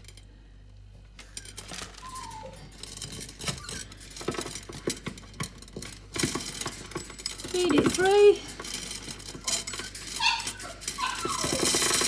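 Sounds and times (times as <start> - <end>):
metal chain clinking and rattling: 1.3 - 12.0.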